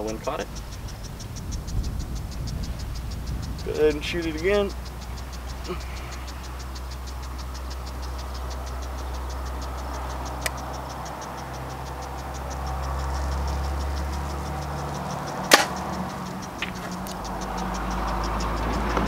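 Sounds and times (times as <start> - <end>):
fast even ticking: 0.0 - 19.0.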